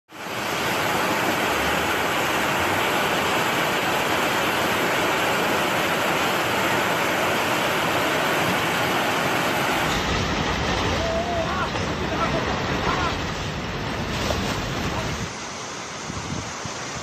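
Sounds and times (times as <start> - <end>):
floodwater rushing: 0.1 - 17.0.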